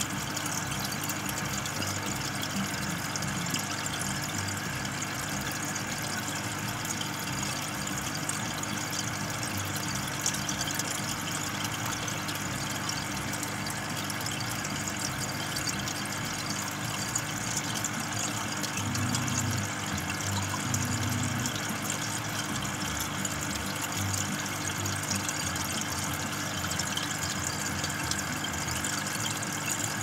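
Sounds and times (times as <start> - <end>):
air pump humming: 0.0 - 30.0
bubbles fizzing: 0.0 - 30.0.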